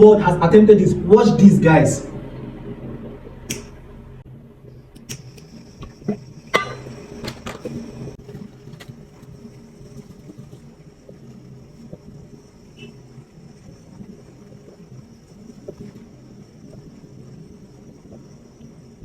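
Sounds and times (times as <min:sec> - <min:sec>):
faint high whine: 0:00.0 - 0:19.0
steady low hum: 0:00.0 - 0:19.0.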